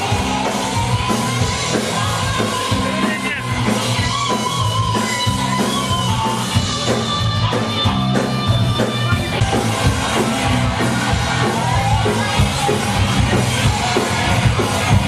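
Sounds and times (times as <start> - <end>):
bass guitar: 0.0 - 15.0
drum kit: 0.0 - 15.0
electric guitars: 0.0 - 15.0.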